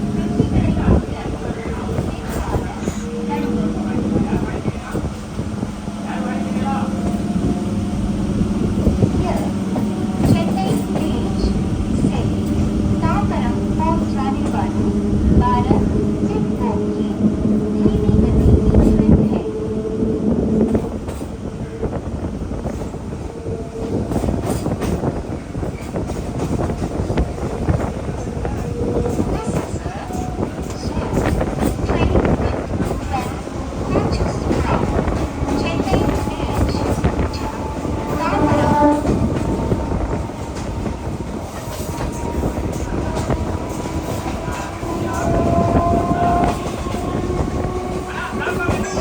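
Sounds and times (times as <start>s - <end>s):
train rumbling on track: 0.0s - 49.0s.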